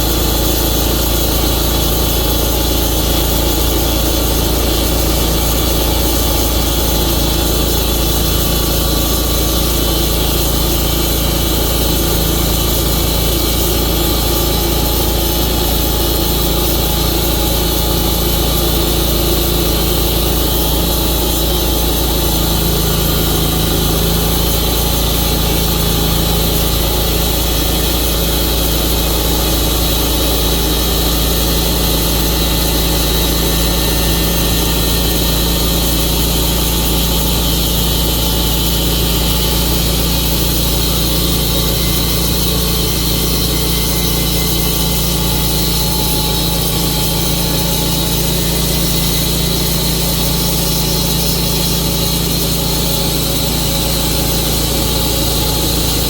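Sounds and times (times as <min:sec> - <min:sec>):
saw blade cutting log: 0:00.0 - 0:56.0
sawmill engine running: 0:00.0 - 0:56.0.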